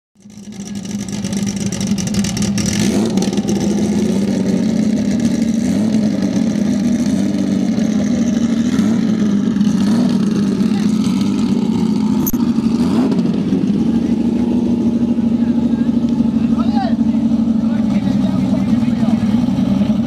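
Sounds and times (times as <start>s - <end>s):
car engine at high revs: 0.2s - 20.0s.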